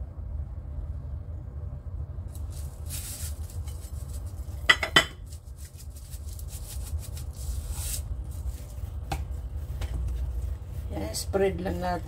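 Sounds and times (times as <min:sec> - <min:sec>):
low steady hum: 0:00.0 - 0:12.0
rustling of handling: 0:02.3 - 0:12.0.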